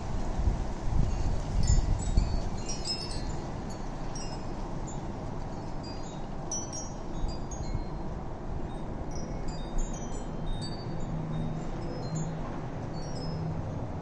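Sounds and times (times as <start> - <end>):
gusting wind on microphone: 0.0 - 14.0
wind chimes ringing: 1.2 - 12.4, 13.0 - 13.6.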